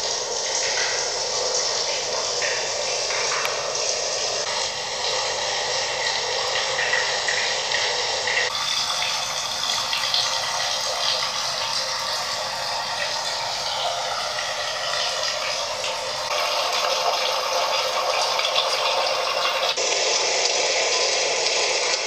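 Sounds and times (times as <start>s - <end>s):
trickling running water: 0.0s - 22.0s.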